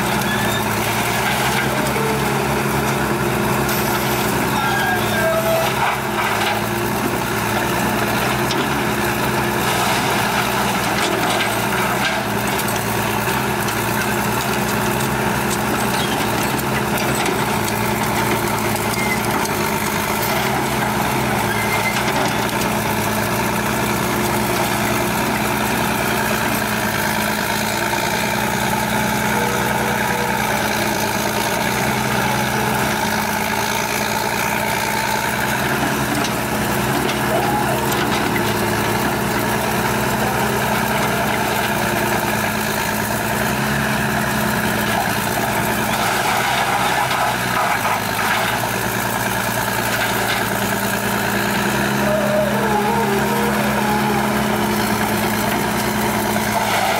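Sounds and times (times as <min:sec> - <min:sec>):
heavy diesel machinery running: 0:00.0 - 0:56.9.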